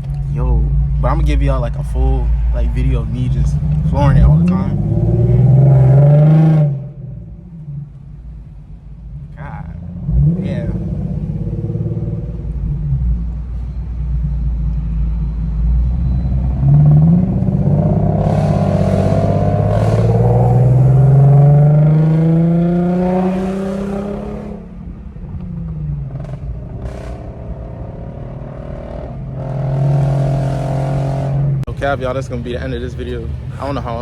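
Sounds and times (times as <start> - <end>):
loud car engine revving: 0.0 - 7.9, 9.1 - 13.5, 14.2 - 31.8.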